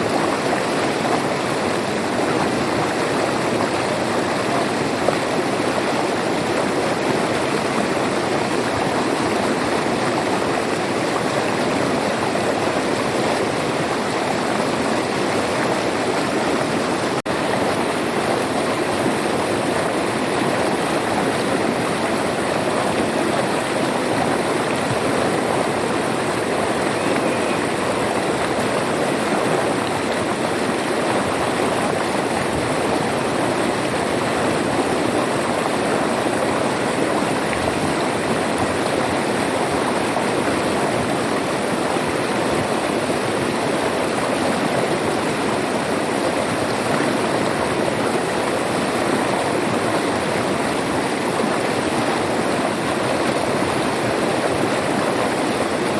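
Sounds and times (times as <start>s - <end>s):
river flowing over rocks: 0.0s - 55.9s.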